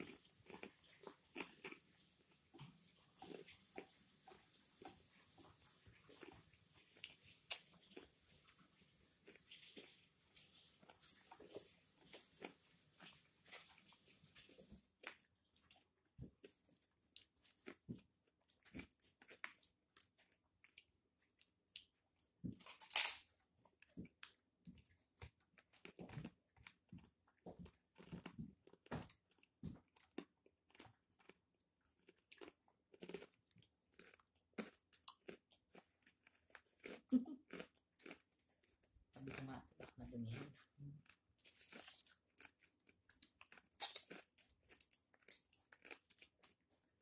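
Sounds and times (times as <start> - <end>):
crunchy food being chewed: 0.0 - 47.0.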